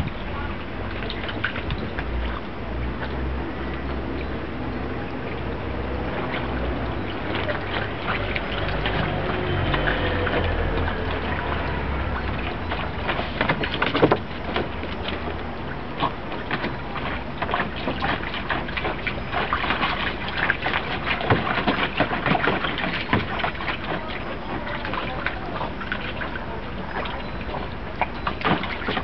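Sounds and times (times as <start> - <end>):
water splashing in pool: 0.0 - 29.0.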